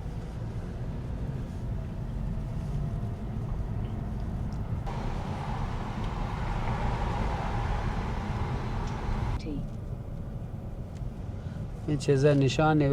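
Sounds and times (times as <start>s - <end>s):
car road and engine rumble: 0.0s - 11.8s.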